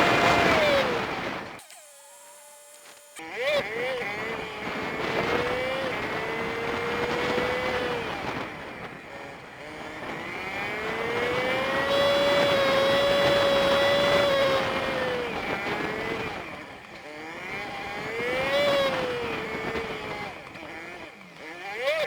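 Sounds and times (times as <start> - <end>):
road and wind noise: 0.0 - 22.0
small motorcycle engine running: 0.0 - 22.0.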